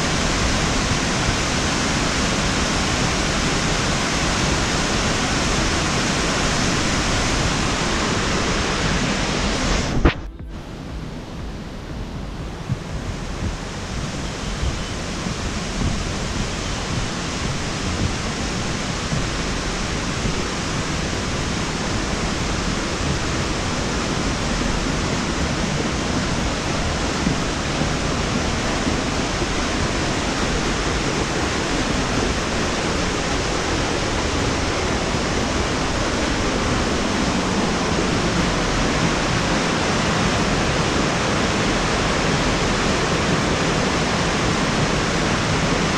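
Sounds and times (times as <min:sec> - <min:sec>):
waterfall rushing into pool: 0:00.0 - 0:45.9.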